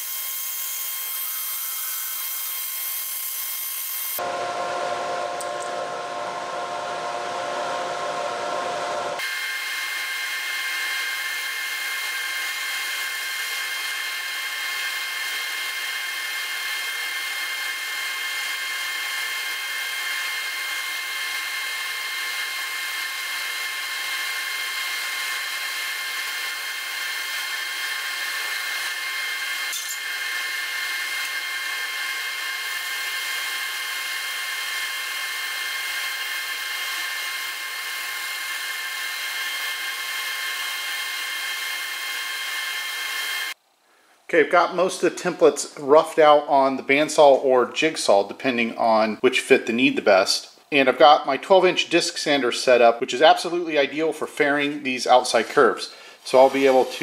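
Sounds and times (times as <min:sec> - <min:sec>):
scroll saw motor whine: 0:00.0 - 0:43.6, 0:54.4 - 0:57.0.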